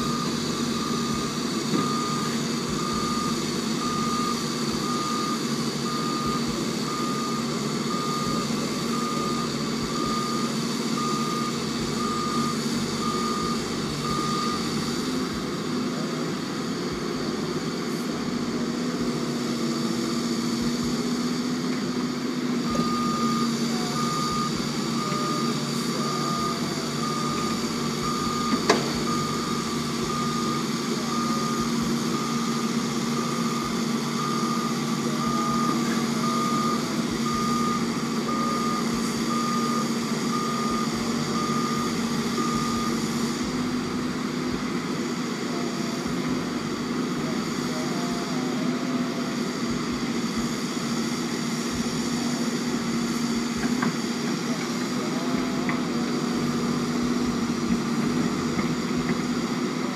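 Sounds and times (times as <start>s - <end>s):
reversing alarm beeping: 0.0s - 18.3s, 18.9s - 53.9s
heavy machine engine running: 0.0s - 59.9s.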